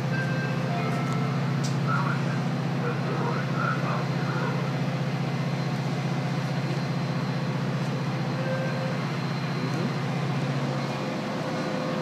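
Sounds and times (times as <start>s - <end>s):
low rumble of trains: 0.0s - 12.0s.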